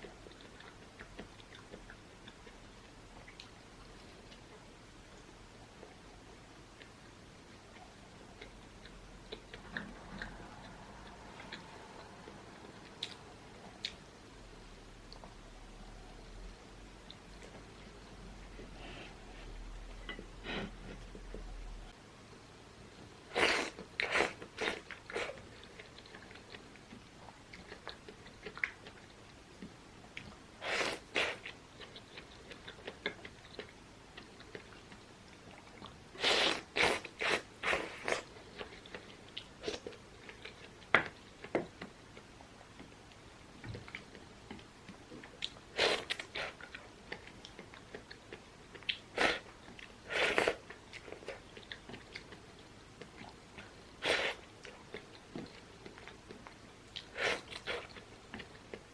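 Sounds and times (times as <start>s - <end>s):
person chewing food: 0.0s - 4.6s, 6.7s - 14.1s, 23.3s - 58.9s.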